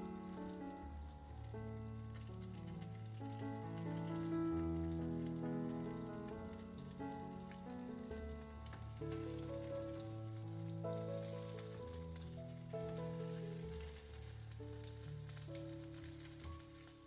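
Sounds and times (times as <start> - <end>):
bread rolls sizzling in a pan: 0.0 - 17.0
music of slow held chords: 0.0 - 17.0.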